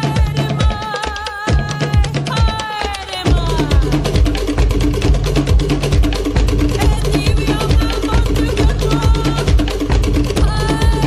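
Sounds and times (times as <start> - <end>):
clattering wooden slit drums: 0.0 - 11.0
deep bass drum beats: 0.0 - 11.0.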